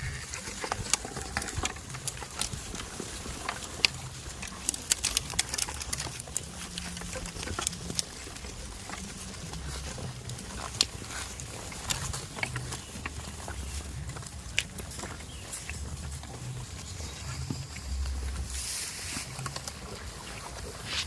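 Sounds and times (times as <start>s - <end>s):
goat hooves clicking and knocking: 0.0s - 21.0s
low uneven rumble: 0.0s - 21.0s.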